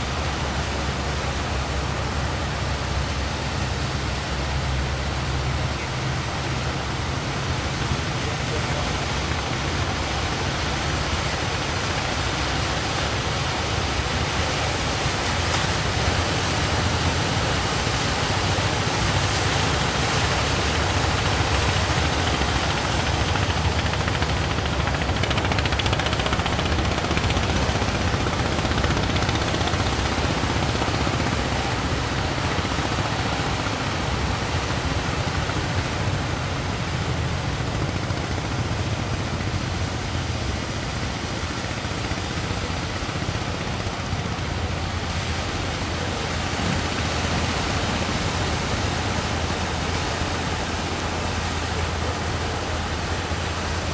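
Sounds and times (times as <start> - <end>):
heavy surf rushing: 0.0 - 53.9.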